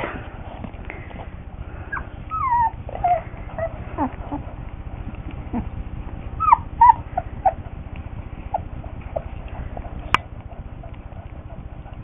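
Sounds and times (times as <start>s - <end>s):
puppies whimpering and squeaking: 1.7s - 12.0s.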